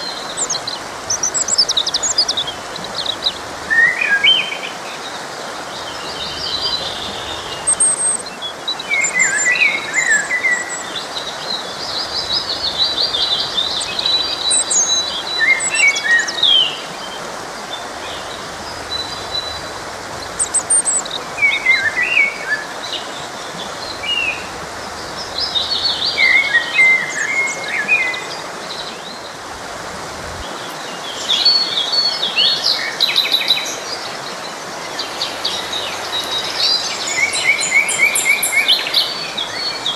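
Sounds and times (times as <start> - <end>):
forest stream rushing: 0.0 - 39.9
songbirds chirping: 0.0 - 39.9.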